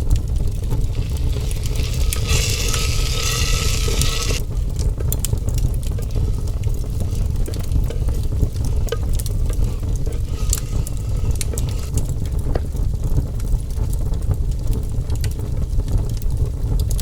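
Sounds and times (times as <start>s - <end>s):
fire popping: 0.0s - 17.0s
wood fire crackling: 0.0s - 17.0s.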